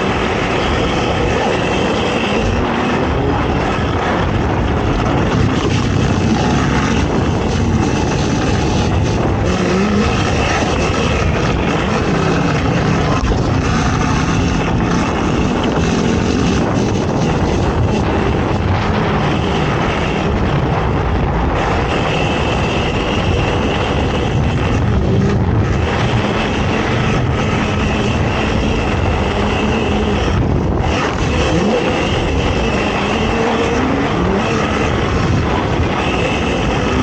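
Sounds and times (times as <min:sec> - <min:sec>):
atv engine running hard: 0:00.0 - 0:37.0
rush of noise: 0:00.0 - 0:37.0.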